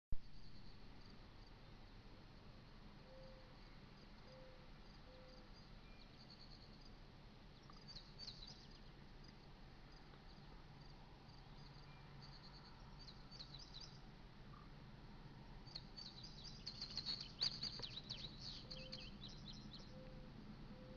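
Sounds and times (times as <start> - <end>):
faint low hum: 0.1 - 20.9
birds and insects chirping: 3.0 - 14.8, 15.4 - 20.9.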